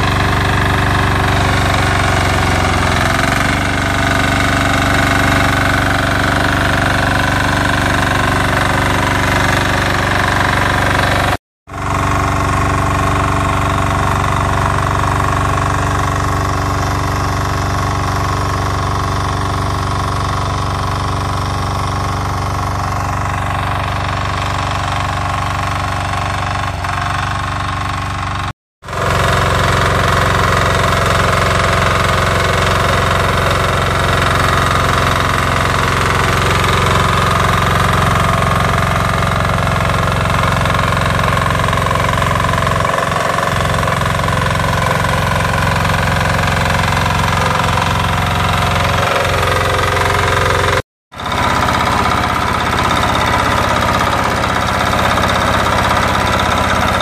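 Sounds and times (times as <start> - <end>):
tiller diesel engine running: 0.0 - 57.0.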